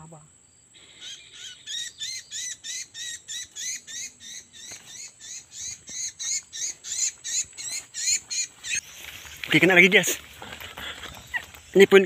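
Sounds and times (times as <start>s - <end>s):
high chirping bird calls: 0.8s - 12.0s.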